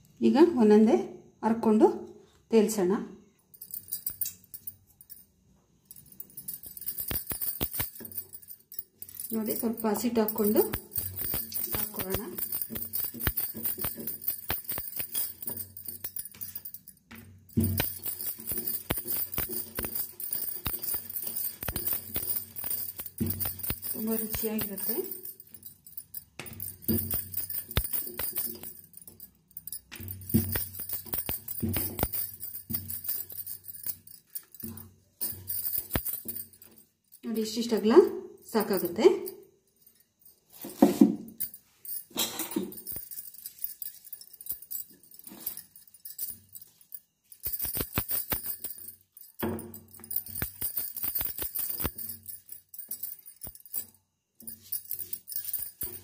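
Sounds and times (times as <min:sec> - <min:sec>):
bangles clinking: 0:03.3 - 0:56.0.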